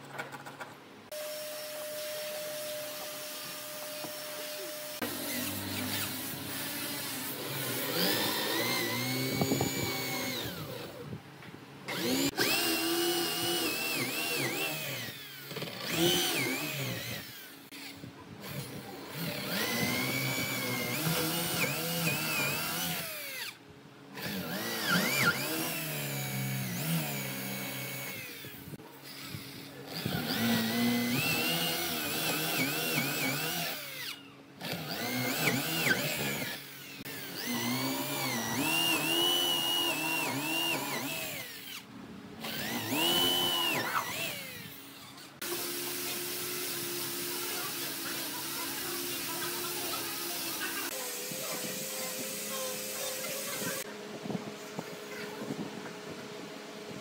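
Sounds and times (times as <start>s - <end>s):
electric drill boring into wood: 1.1s - 11.2s, 11.9s - 23.6s, 24.2s - 55.3s.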